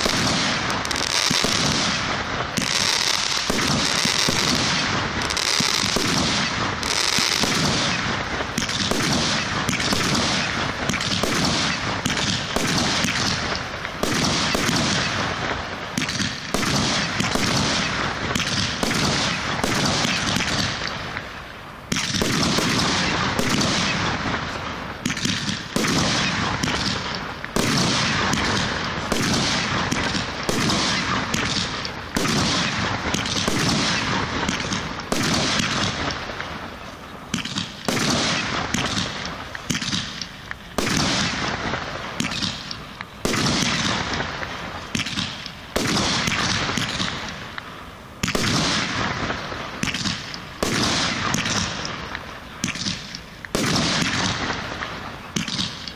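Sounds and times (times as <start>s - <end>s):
firework shells banging: 0.0s - 55.9s.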